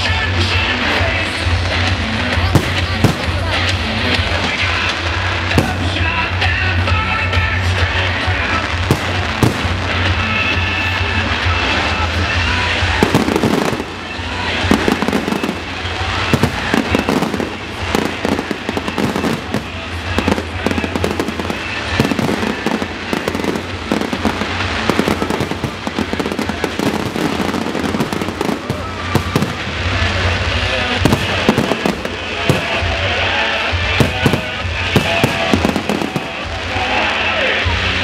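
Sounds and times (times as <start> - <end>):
fireworks bangs and crackling: 0.0 - 38.0
music playing: 0.0 - 38.0.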